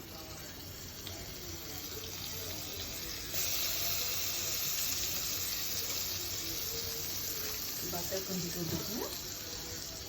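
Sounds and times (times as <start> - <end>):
hot pan sizzling: 0.0 - 10.0.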